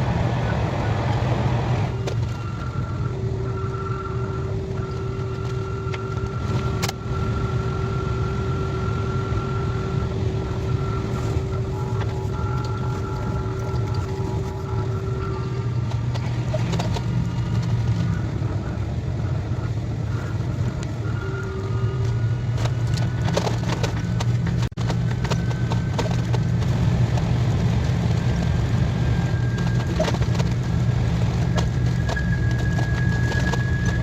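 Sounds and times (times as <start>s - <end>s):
high-speed train rumbling: 0.0s - 34.0s.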